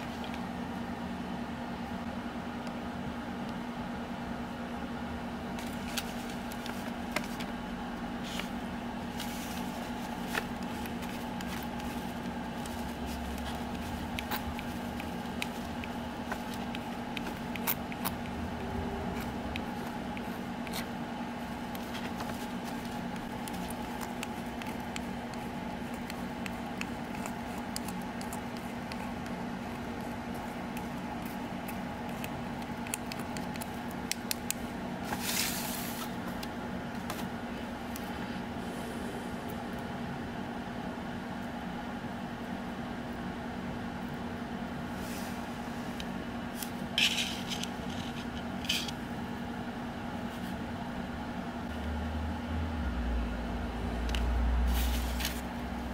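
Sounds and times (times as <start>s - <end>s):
low room hum: 0.0s - 55.9s.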